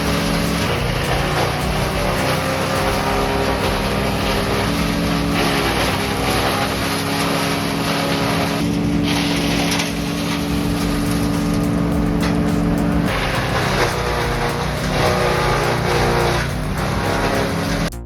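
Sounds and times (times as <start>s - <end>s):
rushing noise of wood shredding: 0.0s - 17.9s
wood shredder engine running: 0.0s - 17.9s.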